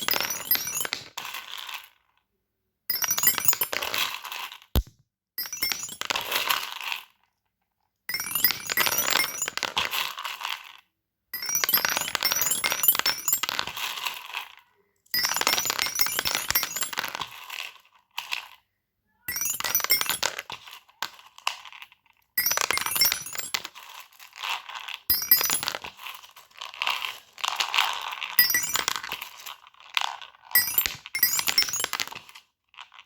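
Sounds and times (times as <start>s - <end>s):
fidget toys clicking and clinking: 0.0s - 2.2s, 2.9s - 7.3s, 8.1s - 33.0s.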